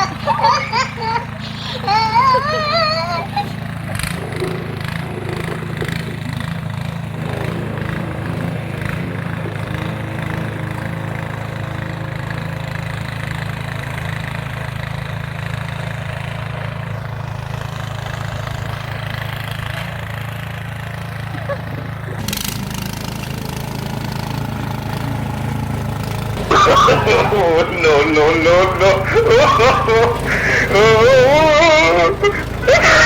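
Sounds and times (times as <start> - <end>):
snow blower engine running: 0.0 - 33.0.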